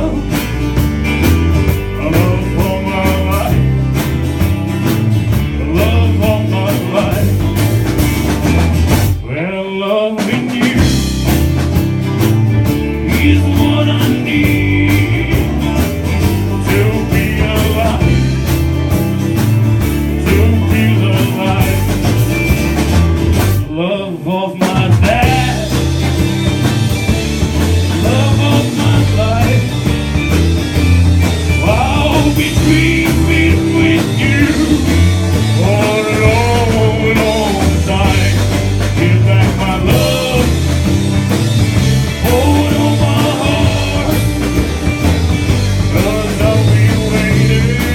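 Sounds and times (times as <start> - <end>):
live country band playing: 0.0 - 47.9.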